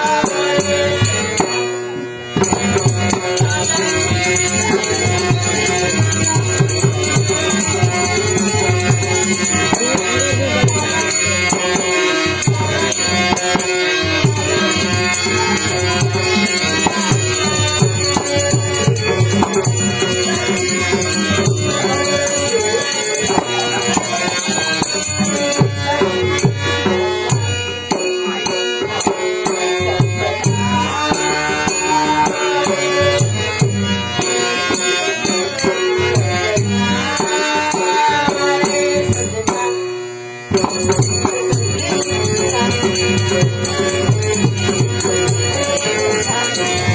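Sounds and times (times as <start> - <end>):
held melodic tones: 0.0 - 39.4, 40.2 - 46.9
hand drums: 0.0 - 39.9, 40.5 - 46.9
jingling percussion: 0.0 - 46.9.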